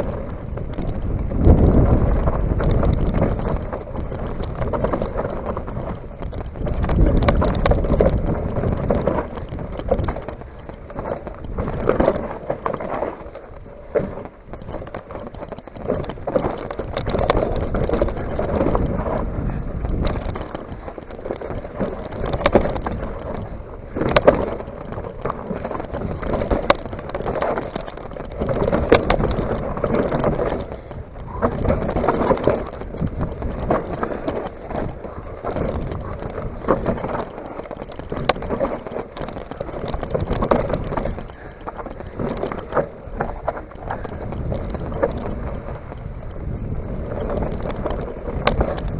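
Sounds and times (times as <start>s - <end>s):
bike rattling over bumps: 0.0s - 48.9s
tyres crunching over dirt and stones: 0.0s - 48.9s
wind rumble on microphone: 0.0s - 48.9s.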